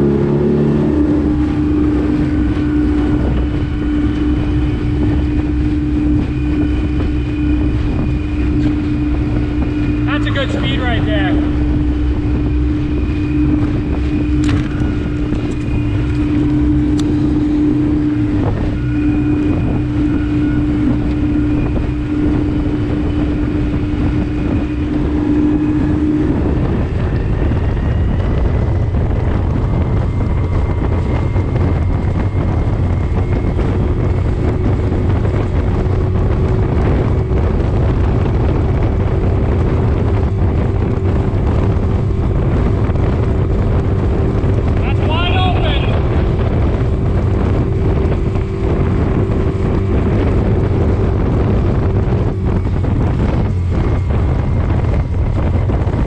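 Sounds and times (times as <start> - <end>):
outboard motor running: 0.0 - 56.0
wind buffeting the microphone: 0.0 - 56.0.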